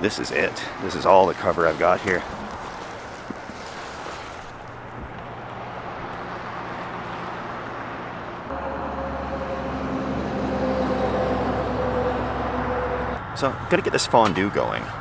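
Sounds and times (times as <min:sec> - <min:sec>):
passing vehicles rushing: 0:00.0 - 0:15.0
vehicle engine hum: 0:00.6 - 0:15.0.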